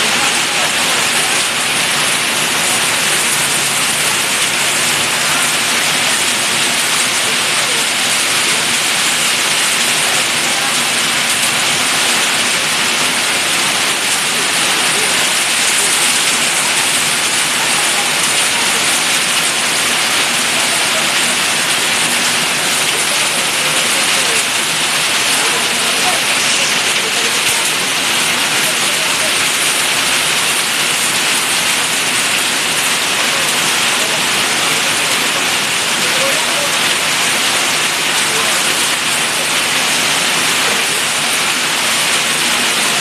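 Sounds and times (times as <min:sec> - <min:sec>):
heavy rain on street: 0:00.0 - 0:43.0.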